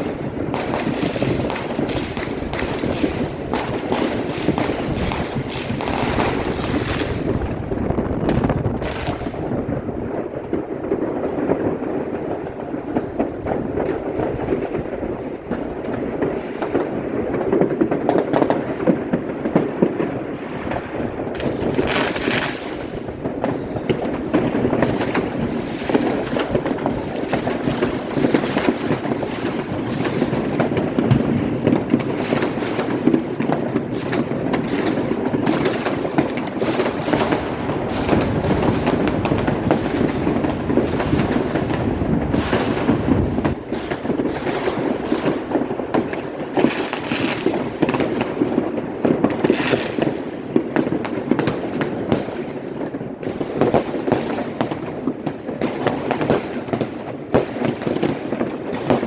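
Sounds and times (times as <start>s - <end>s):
fireworks and firecrackers bangs: 0.0s - 59.0s.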